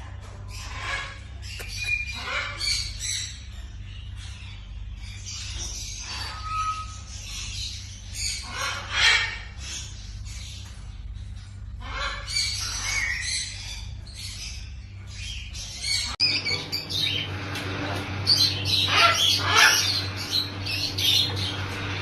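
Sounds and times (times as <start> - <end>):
steady low hum: 0.0 - 22.0
parrots squawking: 0.2 - 22.0.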